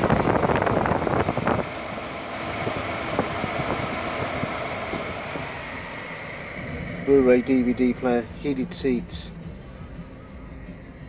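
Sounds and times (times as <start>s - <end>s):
air rushing in car cabin: 0.0s - 10.0s
air conditioning fan blowing: 0.0s - 11.0s.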